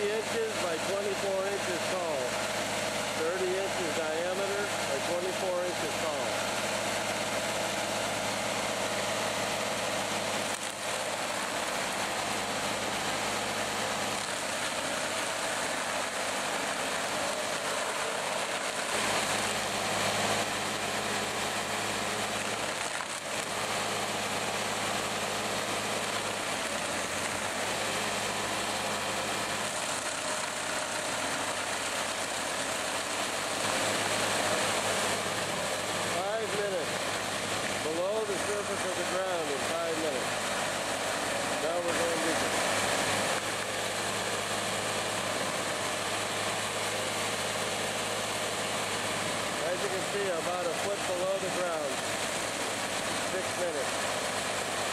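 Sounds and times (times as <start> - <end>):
engine hum: 0.0 - 54.9
stump grinder grinding: 0.0 - 54.9.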